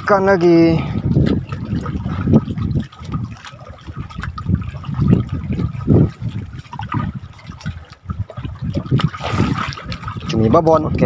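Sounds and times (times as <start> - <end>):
seawater lapping against wooden poles: 0.0 - 11.0.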